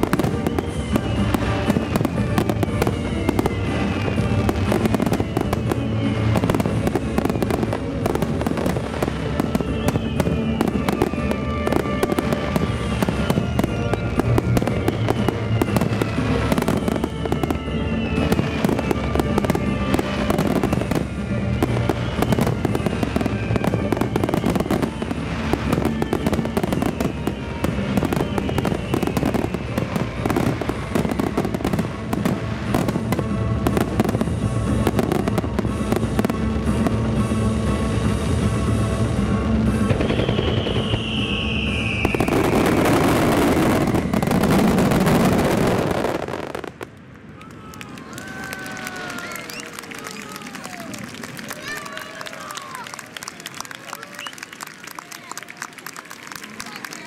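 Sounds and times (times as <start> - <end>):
loud music over loudspeakers: 0.0 - 46.8
fireworks bursting and crackling: 0.0 - 57.0.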